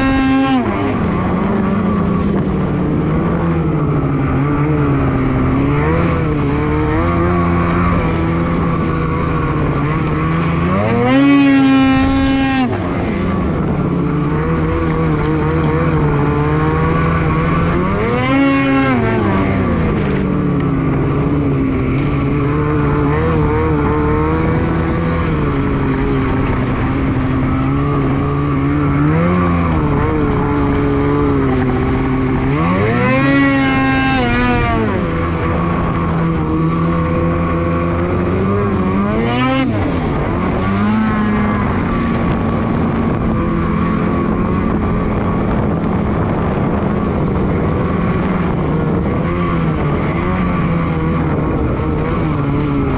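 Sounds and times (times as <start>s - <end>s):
snowmobile engine revving: 0.0s - 52.9s.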